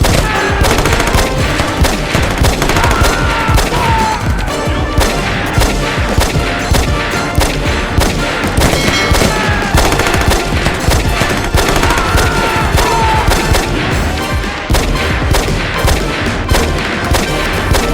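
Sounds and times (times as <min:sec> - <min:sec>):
background music: 0:00.0 - 0:17.9
machine-gun bursts: 0:00.0 - 0:17.9.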